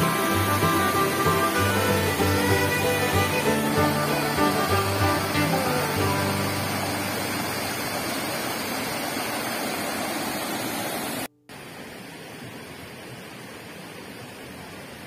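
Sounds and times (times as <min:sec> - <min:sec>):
waterfall rushing: 0:00.0 - 0:14.5
flowing river water: 0:00.0 - 0:15.0.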